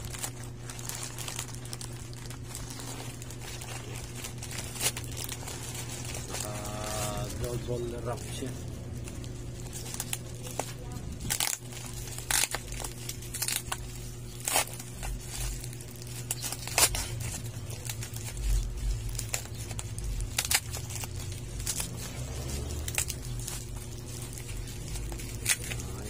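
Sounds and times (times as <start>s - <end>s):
plastic packaging crinkling: 0.0s - 26.0s
steady low hum: 0.0s - 26.0s.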